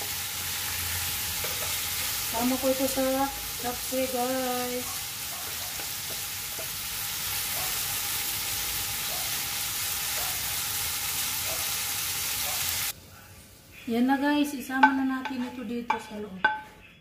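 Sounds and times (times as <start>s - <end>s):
food sizzling in a frying pan: 0.0s - 15.6s.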